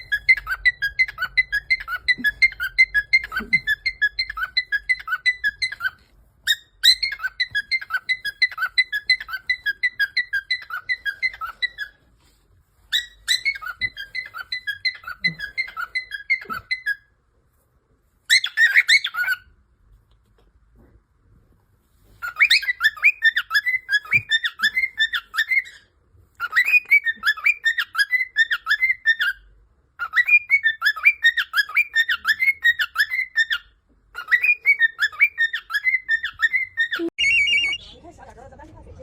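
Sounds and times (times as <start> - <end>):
cockatiel whistling: 0.0 - 12.0, 12.9 - 17.0, 18.3 - 19.5, 22.2 - 38.0
harsh bird chirps: 0.0 - 12.1, 12.8 - 17.2, 18.3 - 19.6, 22.2 - 38.0.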